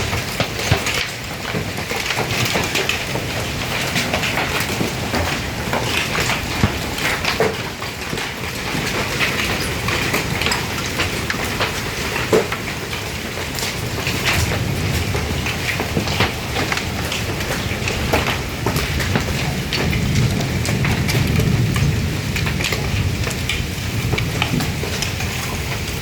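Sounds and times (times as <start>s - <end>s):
hail and rain hissing: 0.0s - 26.0s
hailstones clicking on surfaces: 0.0s - 26.0s.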